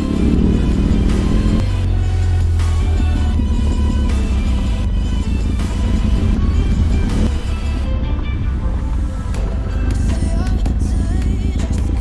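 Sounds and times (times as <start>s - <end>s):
motorcycle engine running: 0.0s - 12.0s
music: 0.0s - 12.0s.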